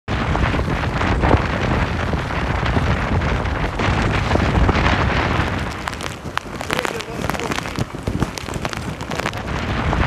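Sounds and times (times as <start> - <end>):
hurricane wind buffeting microphone: 0.1 - 10.0.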